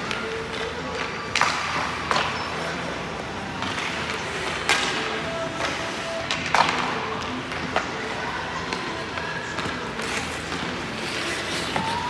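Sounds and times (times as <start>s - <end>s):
hall background noise: 0.0s - 12.0s.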